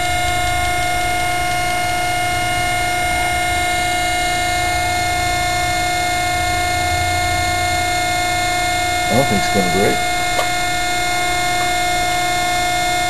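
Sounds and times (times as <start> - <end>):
machinery high whine: 0.0 - 13.0.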